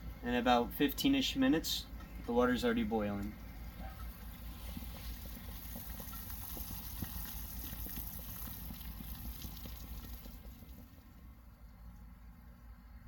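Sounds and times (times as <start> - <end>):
water boiling in metal pot: 0.0 - 13.0.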